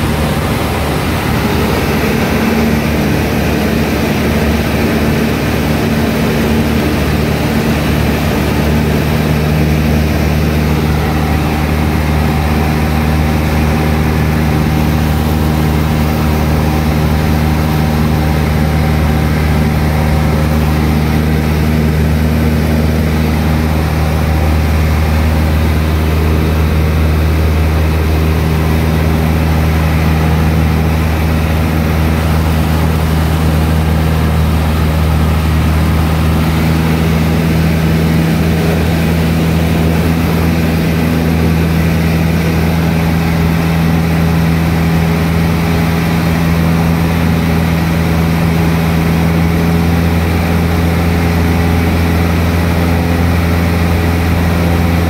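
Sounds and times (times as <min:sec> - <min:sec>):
aircraft engine and propeller drone: 0:00.0 - 0:55.0.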